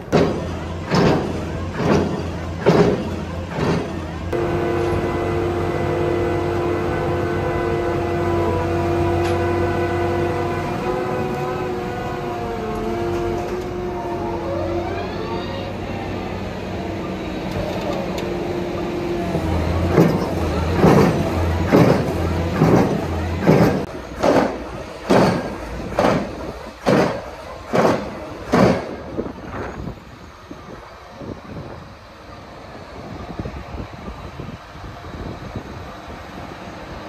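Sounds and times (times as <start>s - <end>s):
construction machinery whine: 0.0s - 37.0s.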